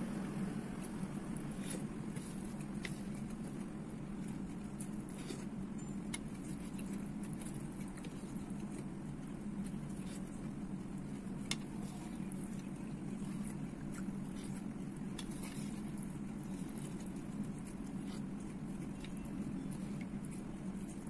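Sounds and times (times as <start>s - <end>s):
steady low hum: 0.0s - 21.0s
chewing mouth sounds: 0.2s - 21.0s.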